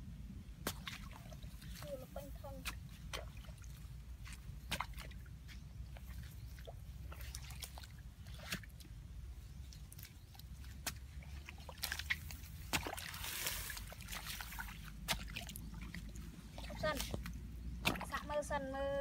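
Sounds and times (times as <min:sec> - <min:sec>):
steady low rumble: 0:00.0 - 0:19.0
mud squelches: 0:00.5 - 0:19.0
water splashes: 0:00.6 - 0:19.0.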